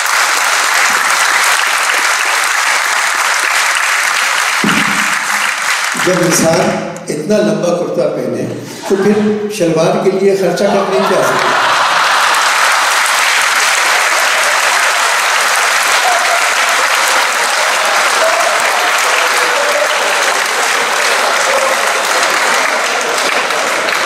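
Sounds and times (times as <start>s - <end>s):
large audience applauding: 0.0s - 6.8s, 10.8s - 24.0s.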